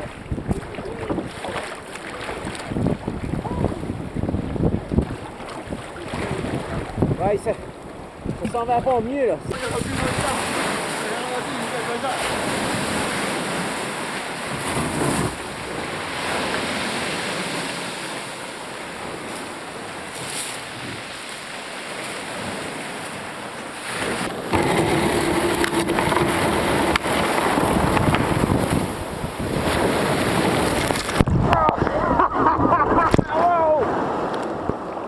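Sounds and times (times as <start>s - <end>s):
choppy water rushing: 0.0s - 35.0s
surf on a pebble beach: 0.0s - 35.0s
wind: 0.0s - 35.0s.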